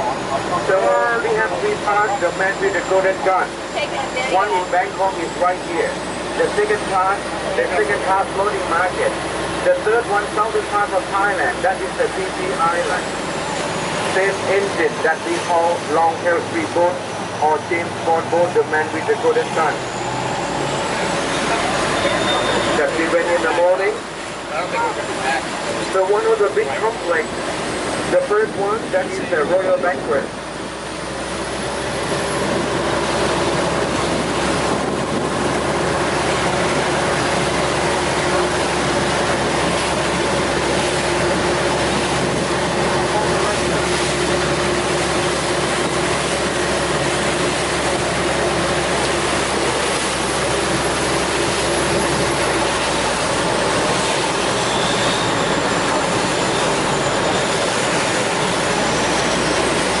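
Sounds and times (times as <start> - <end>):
boat engine running: 0.0 - 60.0
water rushing along hull: 0.0 - 60.0.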